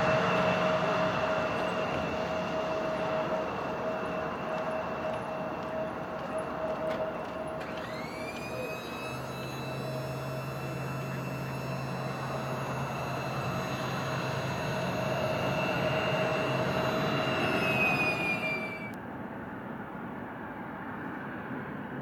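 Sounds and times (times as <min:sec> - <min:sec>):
jet engines whining: 0:00.0 - 0:19.0.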